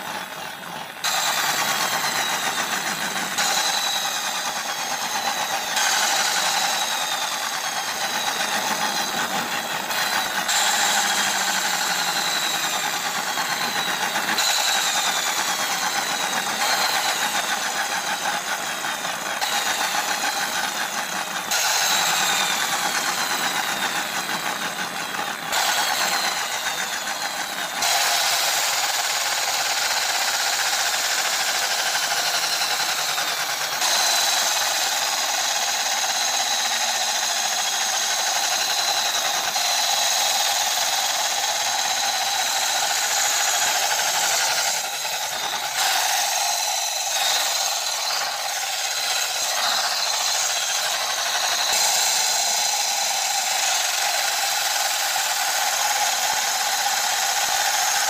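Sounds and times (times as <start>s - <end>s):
toy car gearboxes whirring: 0.0s - 58.0s.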